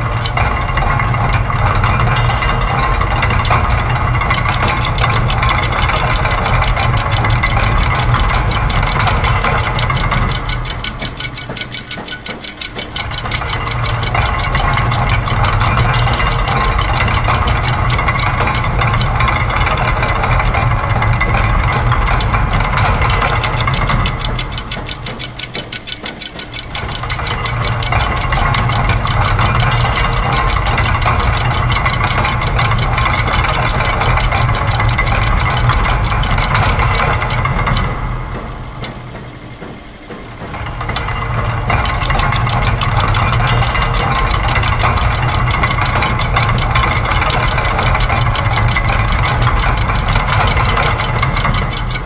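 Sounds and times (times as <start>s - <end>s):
low machine hum: 0.0s - 52.0s
mechanical clicking and rattling: 0.0s - 52.0s.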